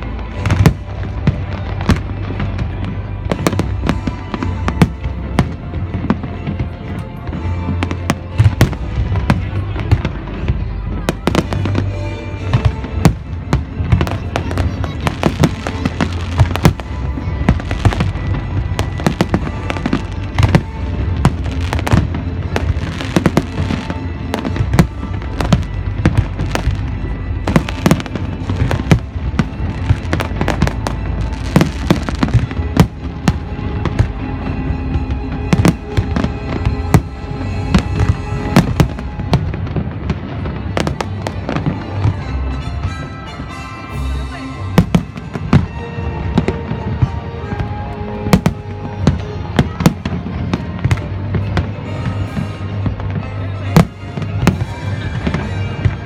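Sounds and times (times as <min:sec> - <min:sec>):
firework bangs and crackles: 0:00.0 - 0:56.0.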